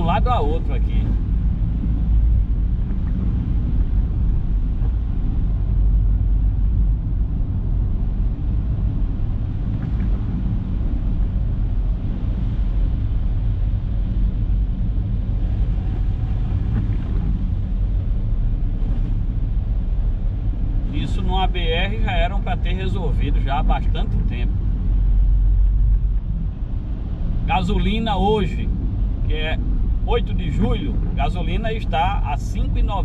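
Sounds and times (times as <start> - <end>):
car on wet road: 0.0 - 33.0.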